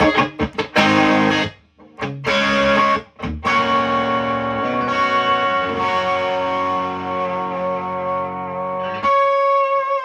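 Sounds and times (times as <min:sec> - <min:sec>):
distorted electric guitar chords: 0:00.0 - 0:10.0.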